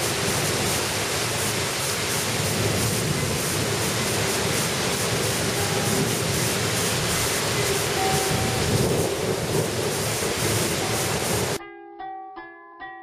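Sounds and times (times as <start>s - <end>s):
torrential rain hissing: 0.0s - 11.6s.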